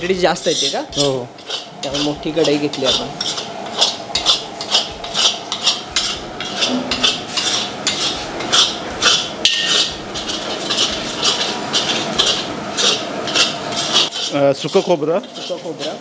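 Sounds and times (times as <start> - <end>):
spices frying in oil: 0.0 - 16.0
spatula scraping metal pan: 0.4 - 16.0.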